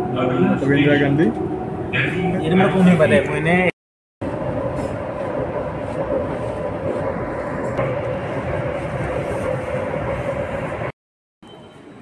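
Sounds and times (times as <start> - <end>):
train rumble and whine: 0.0 - 12.0.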